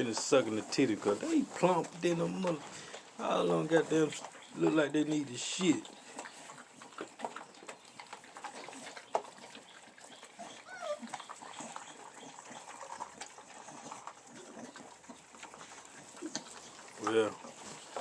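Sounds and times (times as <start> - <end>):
dogs lapping wet food: 0.0 - 18.0.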